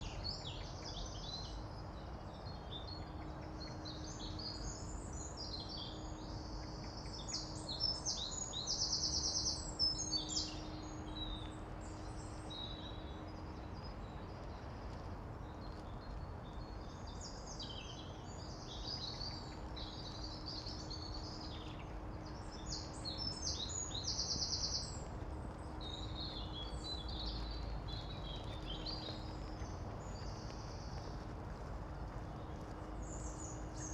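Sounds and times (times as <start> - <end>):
birds singing: 0.0 - 33.9
low background rumble: 0.0 - 33.9.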